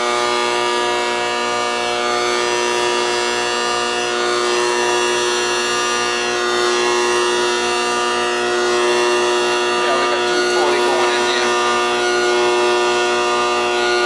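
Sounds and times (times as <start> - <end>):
air conditioner electrical buzz: 0.0 - 14.0.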